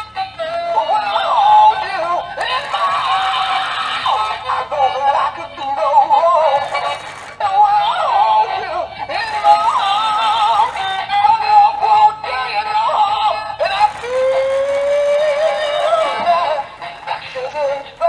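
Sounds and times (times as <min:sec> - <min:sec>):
toy singing in synthetic voice: 0:00.0 - 0:18.0.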